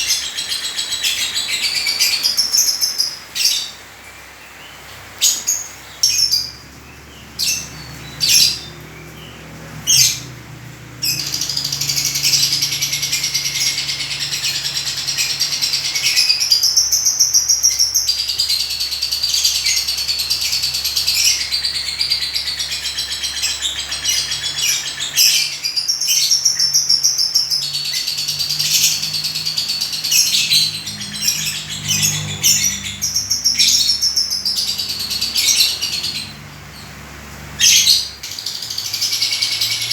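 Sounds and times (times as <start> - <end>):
lovebird chirping and twittering: 0.0 - 3.8, 4.7 - 39.9.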